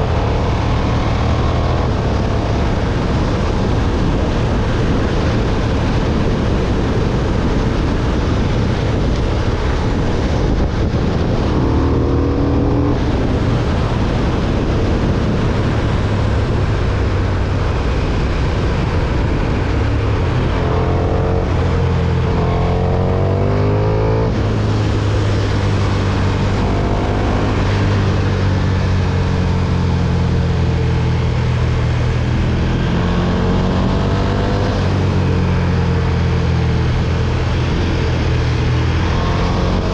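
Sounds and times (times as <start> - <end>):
motorcycle engine accelerating: 0.0 - 39.9
wind rush on microphone: 0.0 - 39.9.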